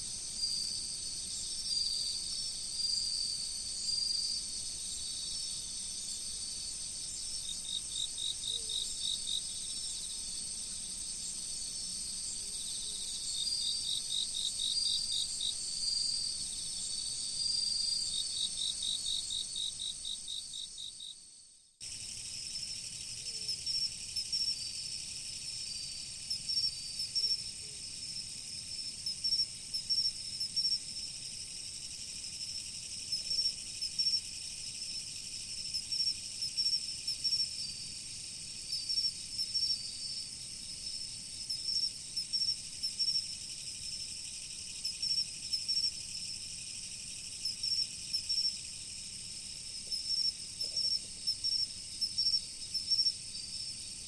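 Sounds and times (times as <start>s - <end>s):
insect chorus: 0.0s - 54.0s
crickets trilling: 0.1s - 21.1s, 21.8s - 54.0s.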